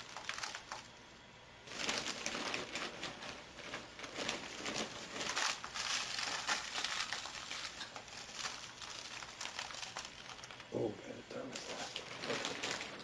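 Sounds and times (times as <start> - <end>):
bedding litter rustling and crinkling: 0.0 - 0.9, 1.6 - 13.0.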